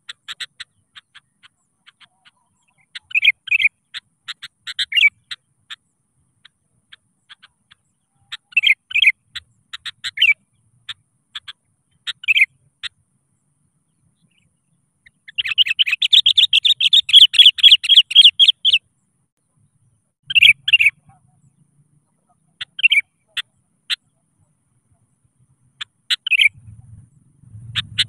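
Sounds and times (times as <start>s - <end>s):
bulbul chirping and chattering: 0.0s - 13.0s, 13.8s - 19.0s, 20.2s - 28.0s.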